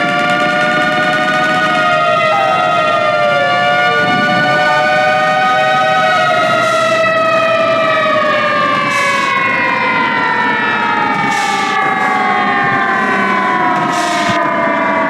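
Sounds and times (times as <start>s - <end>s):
bus engine whining: 0.0s - 15.0s.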